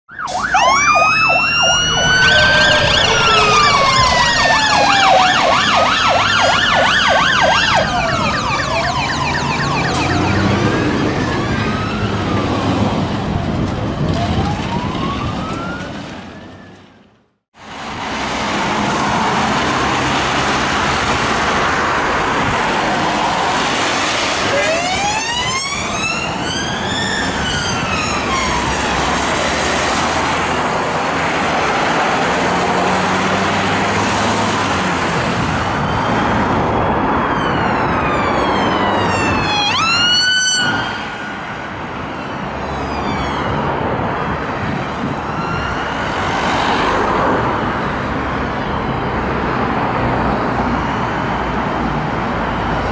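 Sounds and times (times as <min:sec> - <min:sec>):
police siren wailing: 0:00.1 - 0:17.0, 0:18.6 - 0:51.0
traffic on wet road: 0:00.1 - 0:52.9.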